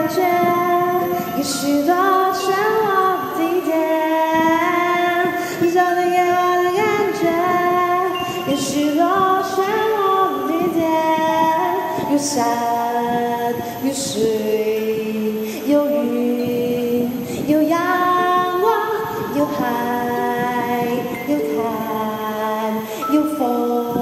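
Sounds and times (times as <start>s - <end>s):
woman singing slow song: 0.0s - 24.0s.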